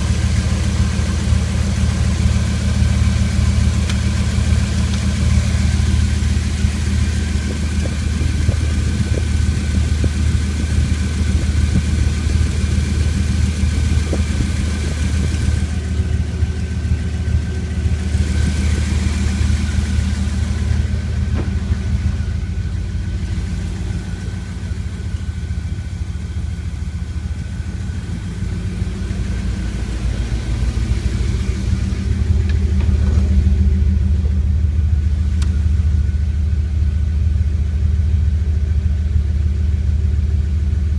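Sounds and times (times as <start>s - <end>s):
truck engine rumbling: 0.0s - 40.9s.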